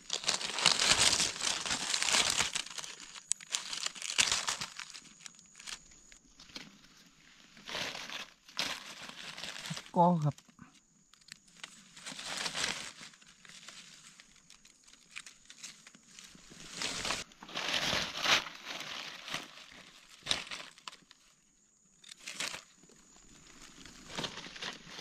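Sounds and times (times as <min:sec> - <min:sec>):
dry leaves rustling and crackling: 0:00.0 - 0:10.5, 0:11.1 - 0:21.2, 0:22.0 - 0:25.0.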